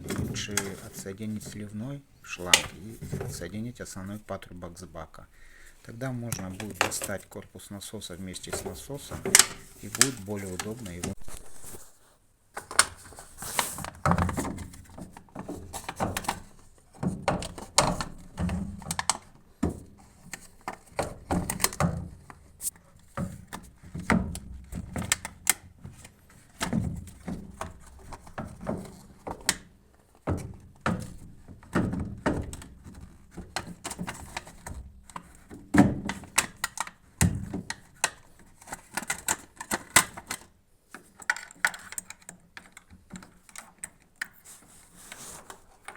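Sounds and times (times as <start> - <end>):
plastic parts knocking and clicking: 0.0 - 3.8, 6.0 - 7.4, 8.2 - 11.8, 12.6 - 45.9.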